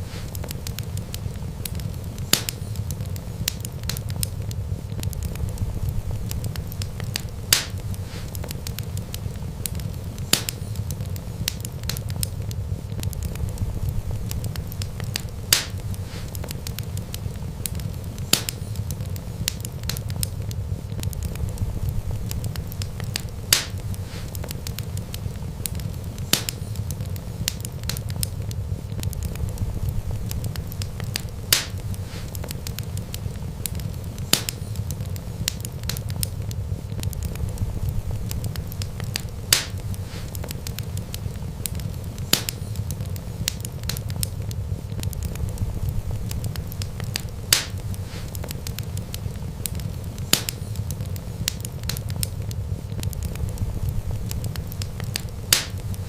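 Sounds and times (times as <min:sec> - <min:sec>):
fire popping: 0:00.0 - 0:56.0
low rumble of burning: 0:00.0 - 0:56.0
wood fire crackling: 0:00.0 - 0:56.0.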